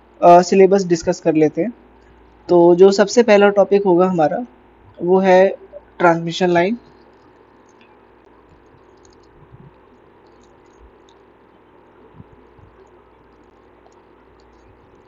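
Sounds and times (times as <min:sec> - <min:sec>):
microphone hiss and hum: 0:00.0 - 0:15.0.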